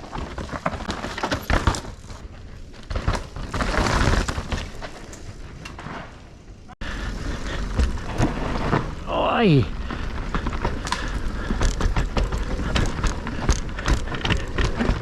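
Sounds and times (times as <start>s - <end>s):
bike knocks and rattles: 0.0s - 6.2s, 7.5s - 9.0s, 9.8s - 15.0s
bike tyres rolling over dirt: 0.0s - 15.0s.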